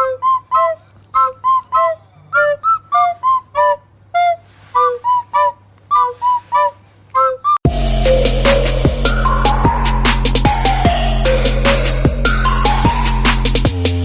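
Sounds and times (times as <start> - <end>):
whistle-like tune: 0.0 - 13.8.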